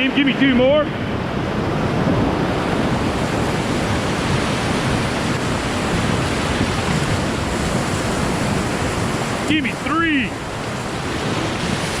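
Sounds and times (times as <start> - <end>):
whitewater rapid rushing: 0.0 - 12.0.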